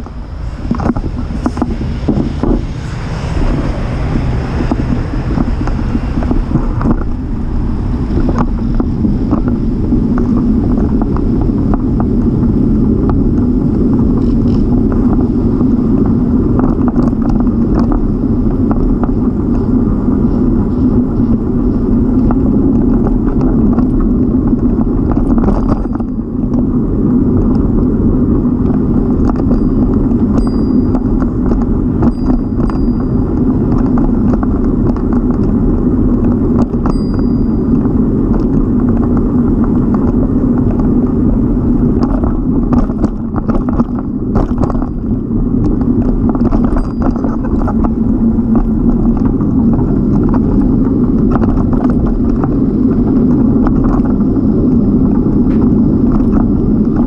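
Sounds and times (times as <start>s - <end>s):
bicycle tyres rumbling on pavement: 0.0s - 57.0s.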